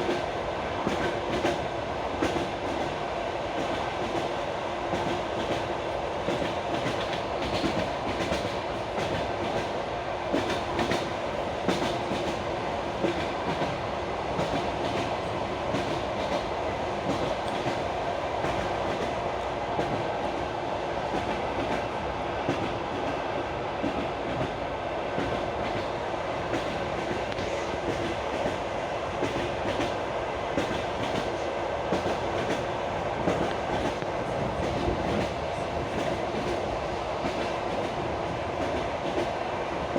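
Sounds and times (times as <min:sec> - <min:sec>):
train running rumble: 0:00.0 - 0:39.9
train wheels clacking on rails: 0:00.0 - 0:39.9.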